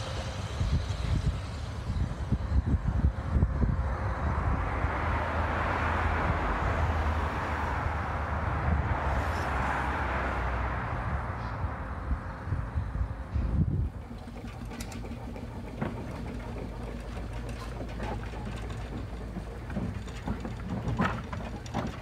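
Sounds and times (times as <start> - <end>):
wind buffeting microphone: 0.0 - 9.6, 10.7 - 22.0
rushing vehicle noise: 0.0 - 22.0.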